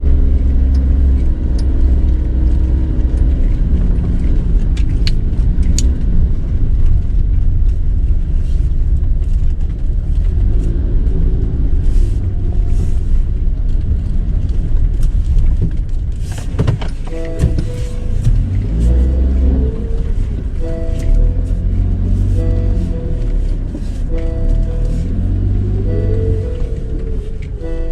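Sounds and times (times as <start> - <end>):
vehicle engine rumbling: 0.0 - 27.9.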